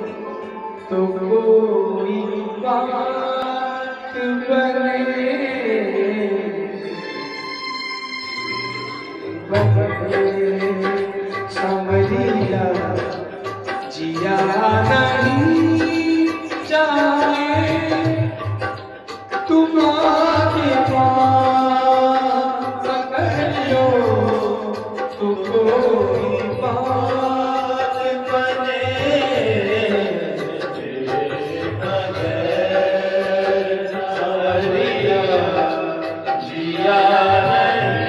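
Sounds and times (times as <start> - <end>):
man singing devotional song: 0.0 - 7.4, 8.6 - 38.0.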